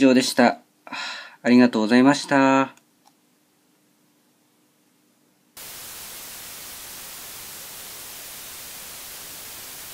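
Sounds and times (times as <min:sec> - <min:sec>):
white-noise static hiss: 0:00.0 - 0:09.9.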